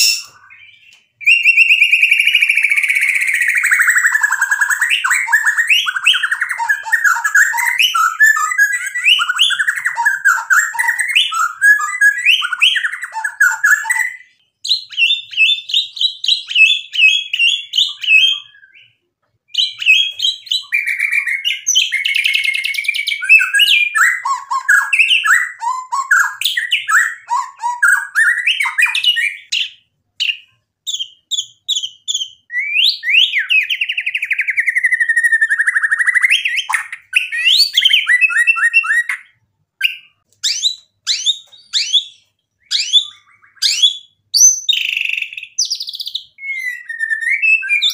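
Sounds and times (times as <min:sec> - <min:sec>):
songbird singing whistles and chatter: 0:00.0 - 0:47.9.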